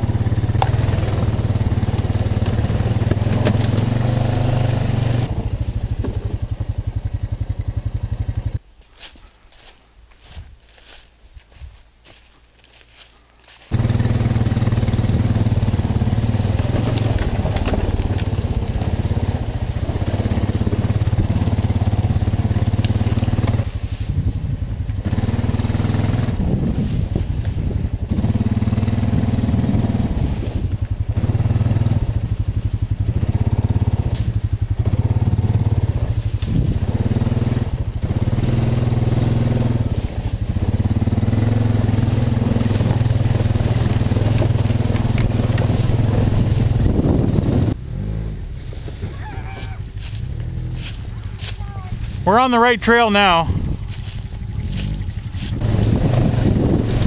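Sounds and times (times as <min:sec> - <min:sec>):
atv engine revving: 0:00.0 - 0:11.0, 0:12.8 - 0:57.0.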